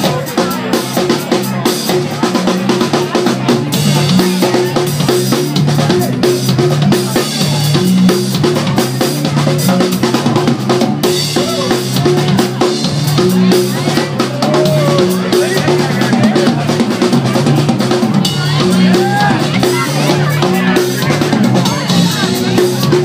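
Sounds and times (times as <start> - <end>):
bass line: 0.0 - 23.0
drum kit: 0.0 - 23.0
funk band playing live: 0.0 - 23.0
guitar: 0.0 - 23.0.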